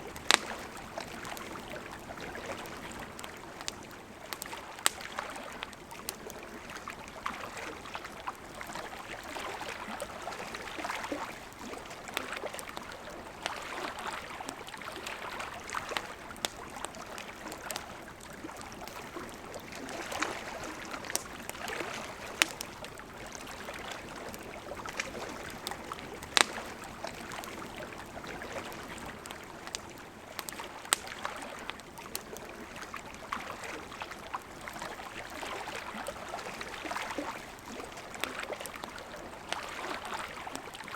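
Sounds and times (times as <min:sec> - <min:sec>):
campfire crackling and popping: 0:00.0 - 0:40.9
flowing river: 0:00.0 - 0:40.9.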